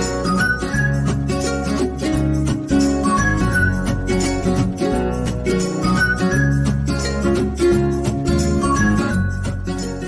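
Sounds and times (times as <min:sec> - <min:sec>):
plucked-string instrumental music: 0:00.0 - 0:10.0
deep bass line: 0:00.9 - 0:10.0.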